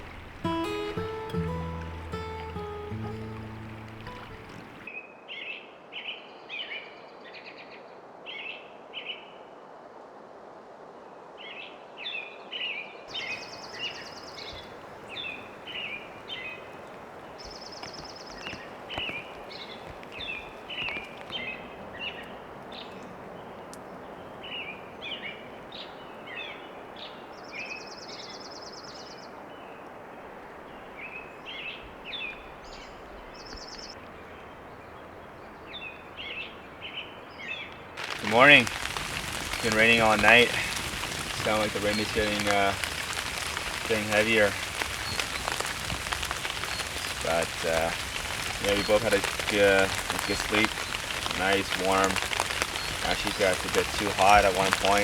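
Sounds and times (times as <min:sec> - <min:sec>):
rain hiss: 0:00.0 - 0:04.9, 0:13.1 - 0:55.0
songbirds chirping: 0:00.0 - 0:04.9, 0:13.1 - 0:55.0.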